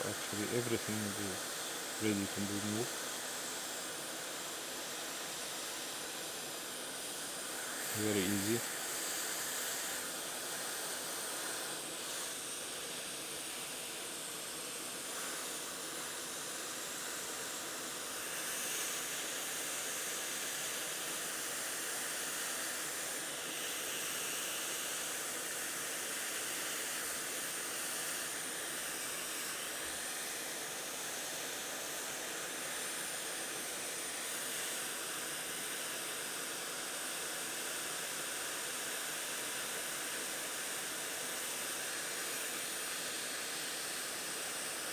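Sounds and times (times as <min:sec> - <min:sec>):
hot air blower hissing: 0:00.0 - 0:44.9.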